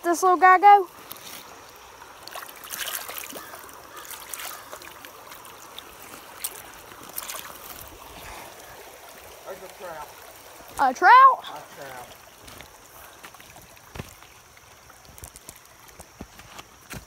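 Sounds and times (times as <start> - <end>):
stream running over rocks: 0.0 - 17.0
splashes in water: 0.9 - 16.1.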